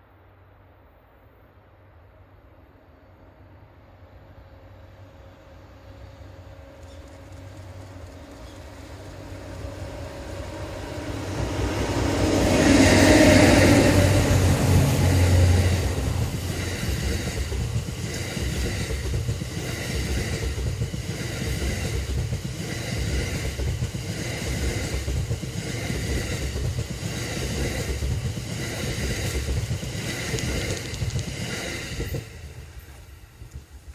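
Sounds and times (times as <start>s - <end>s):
train rumble with wheel clatter: 2.5s - 33.9s.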